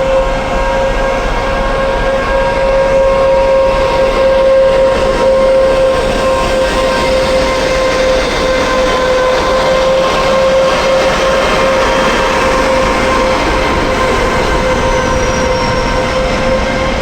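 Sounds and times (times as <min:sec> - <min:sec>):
humming tone: 0:00.0 - 0:17.0
train rolling noise: 0:00.0 - 0:17.0.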